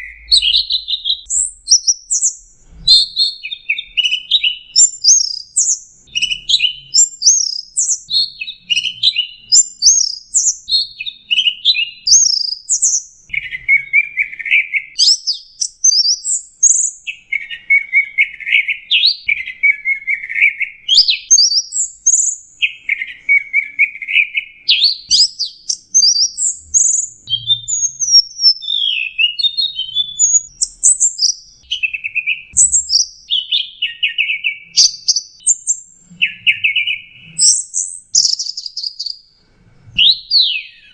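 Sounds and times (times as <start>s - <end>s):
shrike singing: 0.0s - 39.1s.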